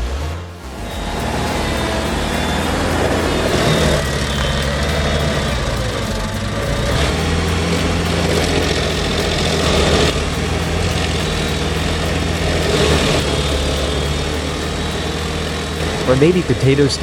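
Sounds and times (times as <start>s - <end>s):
stump grinder engine running: 0.0s - 17.0s.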